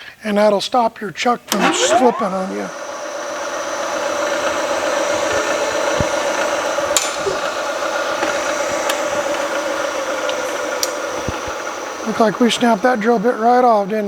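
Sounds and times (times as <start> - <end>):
sharp clicks: 1.5 - 13.9
drill cutting into steel: 1.5 - 14.0.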